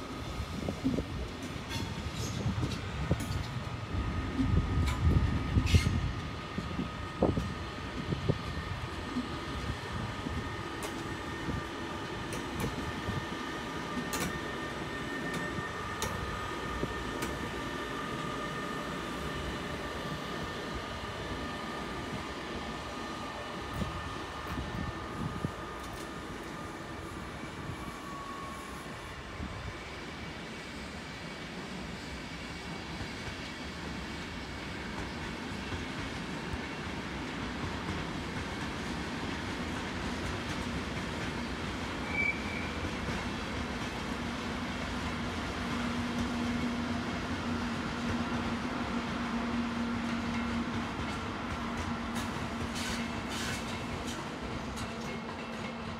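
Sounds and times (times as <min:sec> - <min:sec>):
electric train rumbling: 0:00.0 - 0:55.9.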